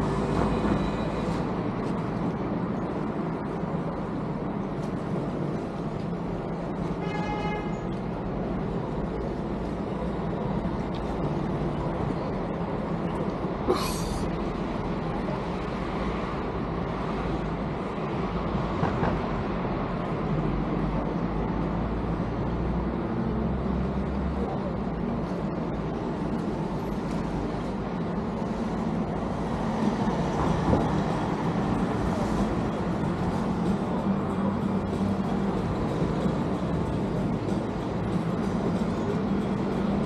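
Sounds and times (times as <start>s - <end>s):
vehicle running rumble: 7.6s - 40.0s.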